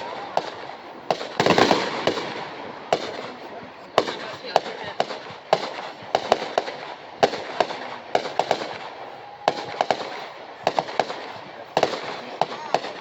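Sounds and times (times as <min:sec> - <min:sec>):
fireworks bangs and cracks: 0:00.0 - 0:13.0
fireworks crackling hiss: 0:00.0 - 0:13.0.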